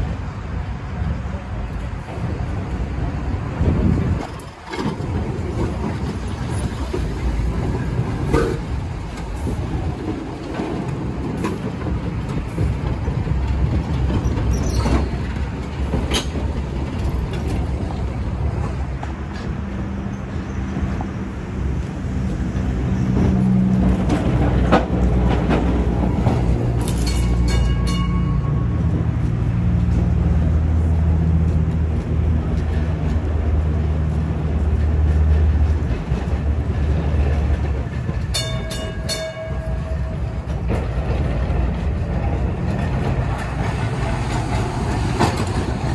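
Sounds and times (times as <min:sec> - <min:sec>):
tram wheels rumbling: 0:00.0 - 0:45.9.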